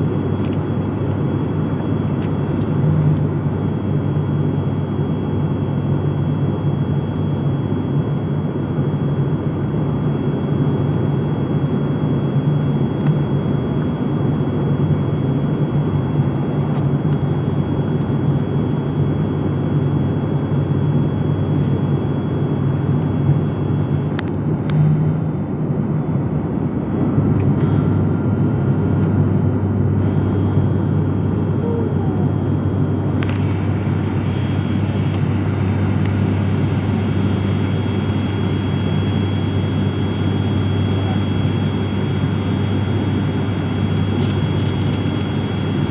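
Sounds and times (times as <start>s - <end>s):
low engine hum: 0.0s - 45.9s.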